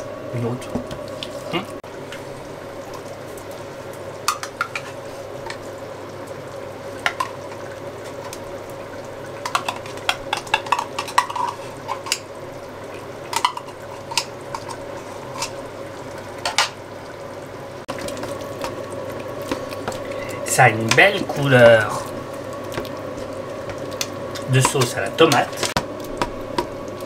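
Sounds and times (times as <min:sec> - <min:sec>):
sauce sizzling: 0:00.0 - 0:27.0.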